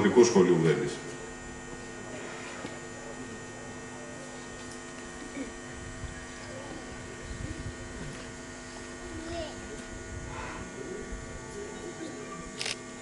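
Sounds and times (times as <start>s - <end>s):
electrical hum and buzz: 0.0s - 13.0s
faint voices murmuring: 0.0s - 13.0s.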